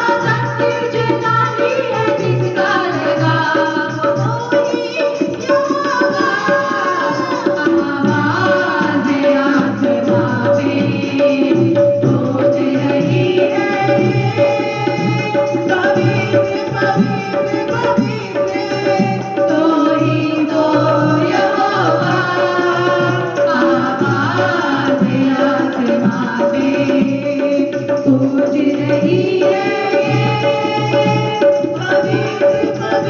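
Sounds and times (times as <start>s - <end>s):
tabla drumming: 0.0s - 33.0s
worship song music: 0.0s - 33.0s.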